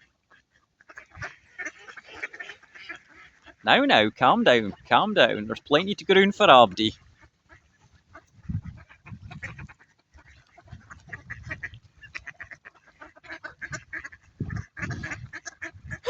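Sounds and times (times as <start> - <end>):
ducks quacking: 0.9 - 16.0.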